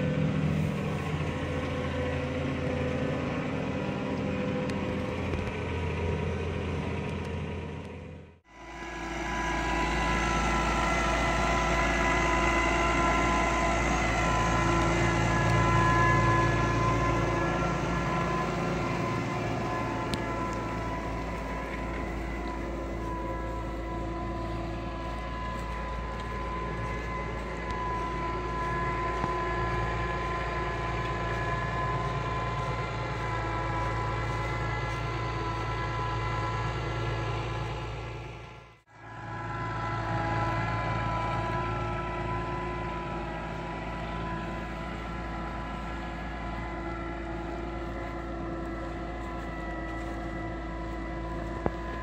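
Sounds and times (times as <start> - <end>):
steady whine: 0.0 - 52.0
tractor diesel engine under load: 0.0 - 52.0.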